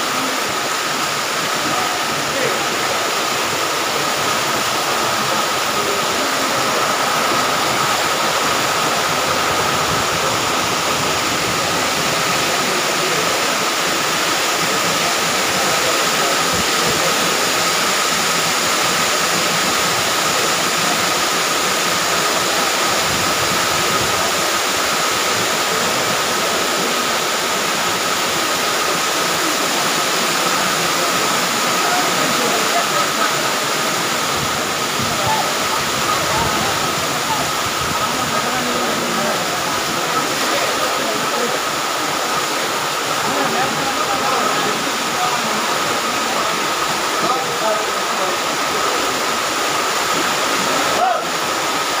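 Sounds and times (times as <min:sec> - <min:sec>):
floodwater rushing: 0:00.0 - 0:52.0.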